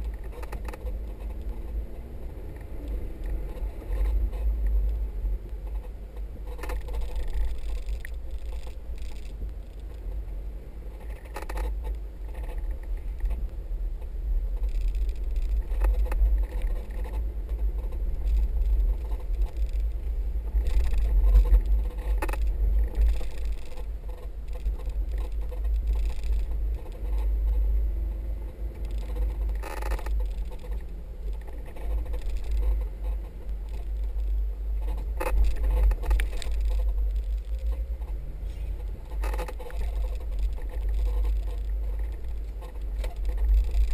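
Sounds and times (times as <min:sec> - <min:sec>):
vehicle engine rumble: 0:00.0 - 0:43.9
wind: 0:00.0 - 0:43.9.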